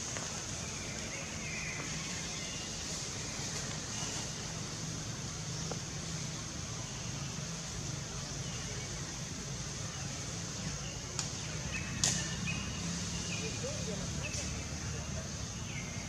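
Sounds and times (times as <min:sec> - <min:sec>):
even hiss: 0:00.0 - 0:16.0.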